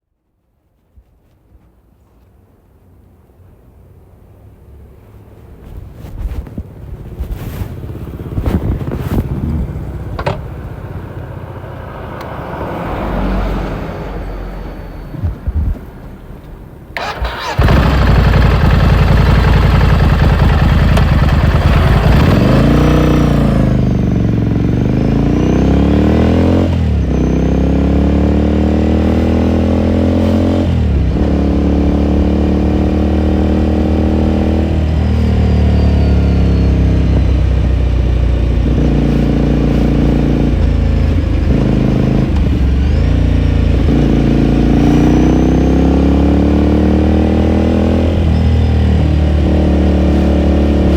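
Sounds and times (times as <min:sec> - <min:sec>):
motorcycle engine accelerating: 0:05.9 - 0:15.9, 0:17.0 - 0:50.9.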